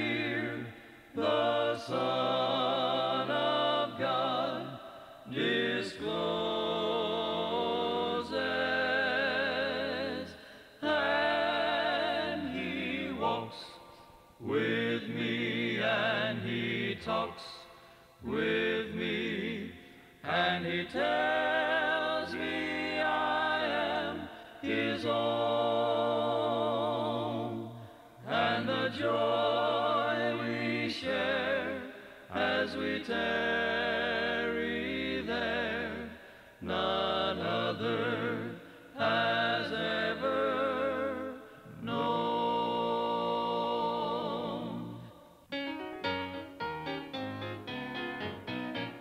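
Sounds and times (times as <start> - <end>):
vocal group singing a hymn: 0.0 - 45.4.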